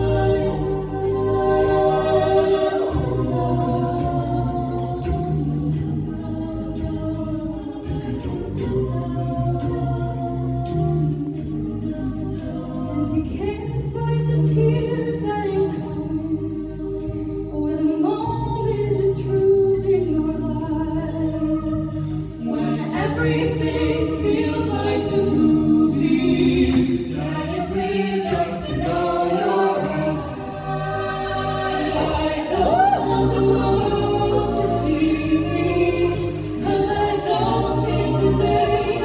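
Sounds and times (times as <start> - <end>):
a cappella ensemble singing: 0.0 - 39.0.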